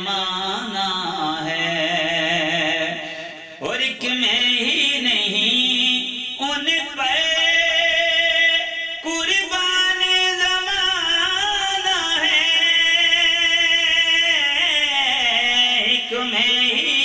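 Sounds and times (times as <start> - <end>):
man singing long held notes: 0.0 - 17.0.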